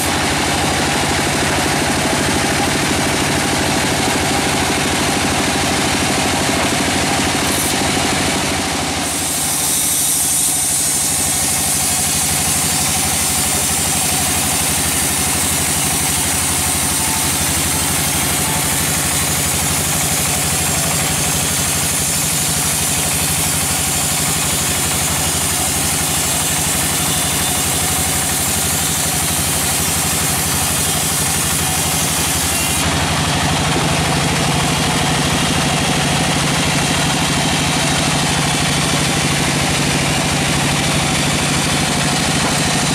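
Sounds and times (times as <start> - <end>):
sawmill blade sawing log: 0.0 - 42.9.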